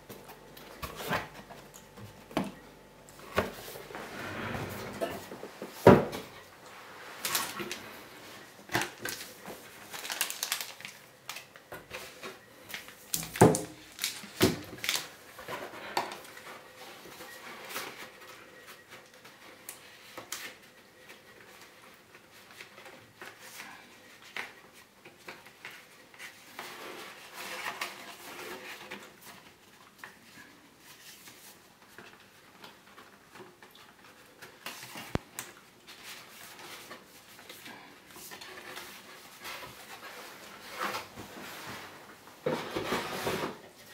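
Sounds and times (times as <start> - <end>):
cardboard packaging rustling: 0.0 - 43.9.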